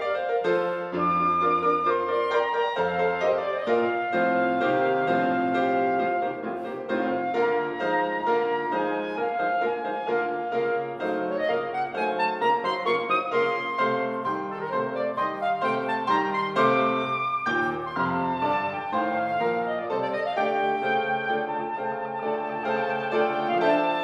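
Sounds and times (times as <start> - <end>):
grand piano chords: 0.0 - 24.0
soprano saxophone: 0.0 - 24.0.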